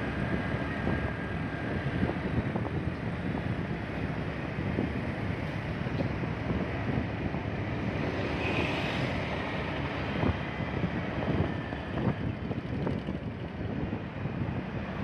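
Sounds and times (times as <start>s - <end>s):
scooter and motorbike engines: 0.0s - 15.0s
wind buffeting microphone: 0.0s - 15.0s.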